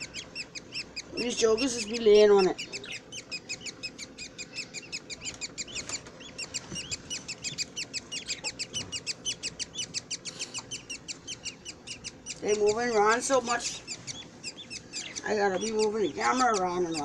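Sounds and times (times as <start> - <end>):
bird chicks chirping: 0.0 - 17.0.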